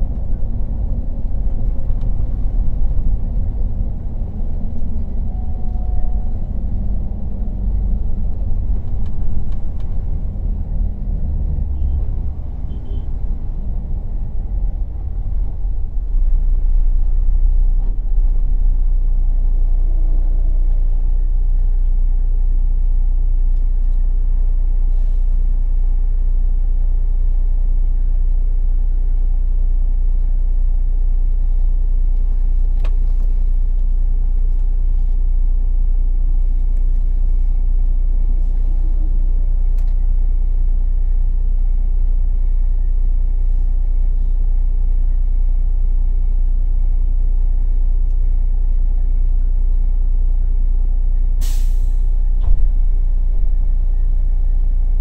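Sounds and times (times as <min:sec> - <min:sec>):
coach engine and road rumble: 0:00.0 - 0:55.0.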